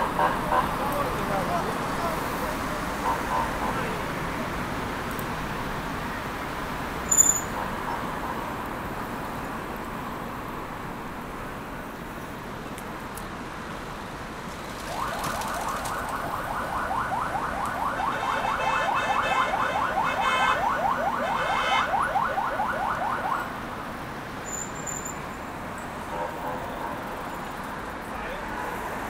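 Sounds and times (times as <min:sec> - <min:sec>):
street noise: 0:00.0 - 0:29.0.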